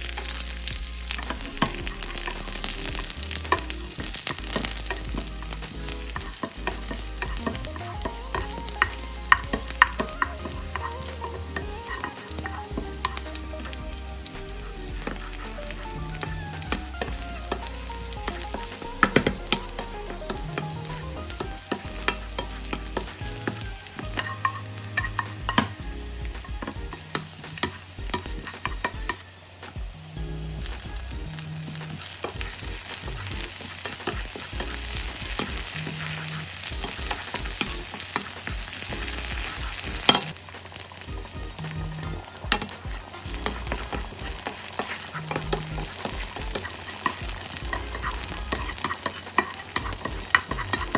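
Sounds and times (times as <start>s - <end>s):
food sizzling in a frying pan: 0.0s - 50.9s.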